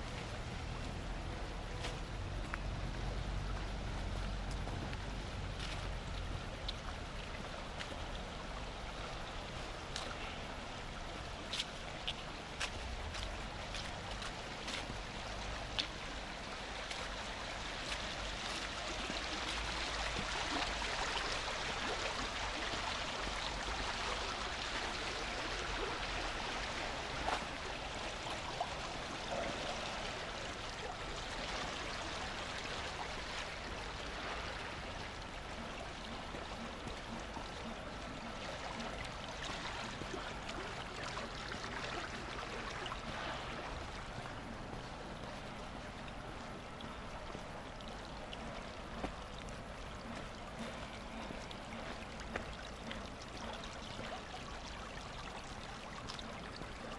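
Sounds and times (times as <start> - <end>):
water rushing in a canal: 0.0 - 56.9.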